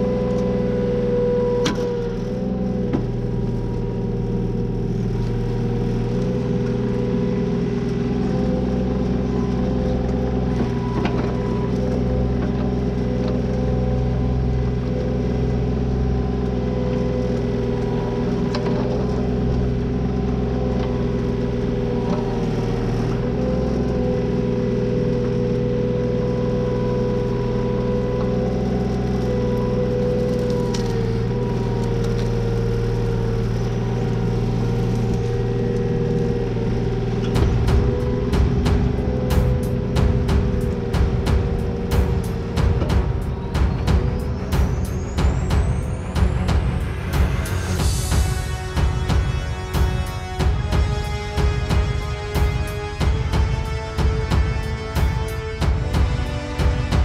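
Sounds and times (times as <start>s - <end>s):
excavator engine whining: 0.0s - 57.0s.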